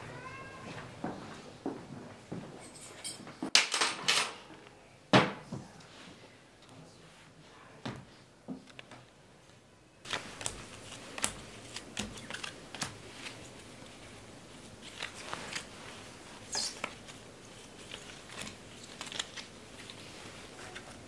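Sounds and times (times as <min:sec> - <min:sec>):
faint room hiss: 0:00.0 - 0:21.0.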